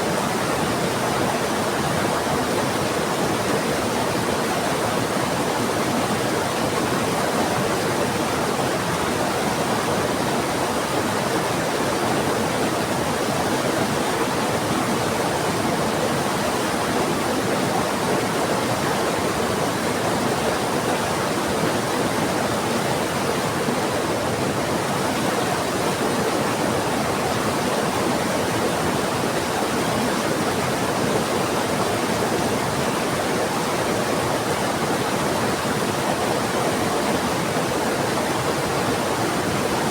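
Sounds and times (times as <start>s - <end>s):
rushing river: 0.0s - 39.9s.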